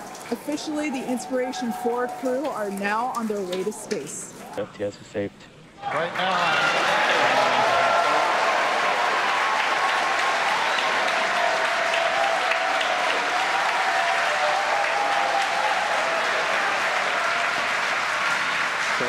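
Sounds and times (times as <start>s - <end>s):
crowd cheering: 0.0s - 3.5s, 5.8s - 19.0s
crowd clapping: 0.0s - 4.1s, 5.8s - 19.0s.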